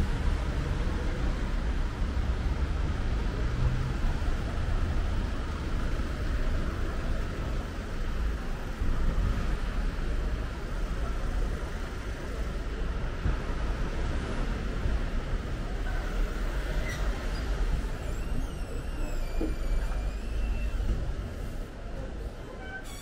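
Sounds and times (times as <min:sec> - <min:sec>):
moving vehicle rumble: 0:00.0 - 0:23.0.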